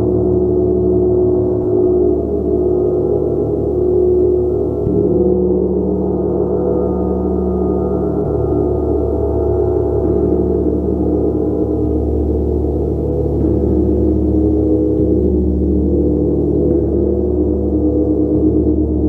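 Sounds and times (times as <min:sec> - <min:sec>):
large gong ringing: 0:01.4 - 0:19.0.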